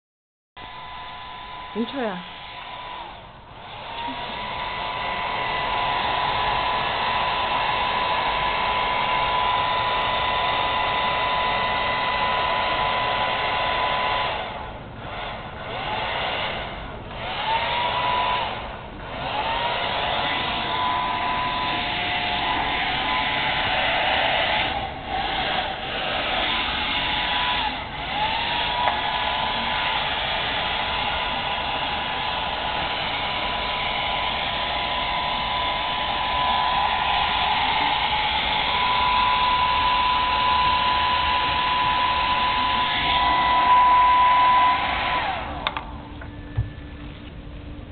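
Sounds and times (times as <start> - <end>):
hair dryer blowing with motor whine: 0.6 - 46.8.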